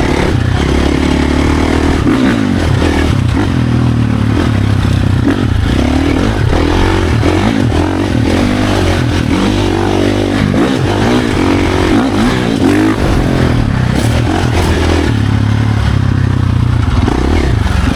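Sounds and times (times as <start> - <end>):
bike rattle and clatter: 0.0 - 17.9
dirt bike engine revving: 0.0 - 17.9.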